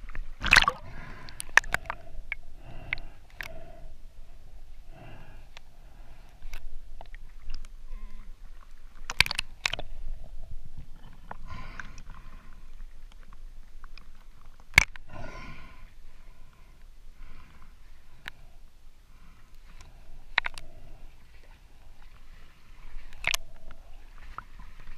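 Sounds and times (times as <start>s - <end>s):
muffled breaths through snorkel: 0.7s - 7.0s, 7.8s - 8.9s, 9.8s - 13.0s, 15.0s - 24.9s.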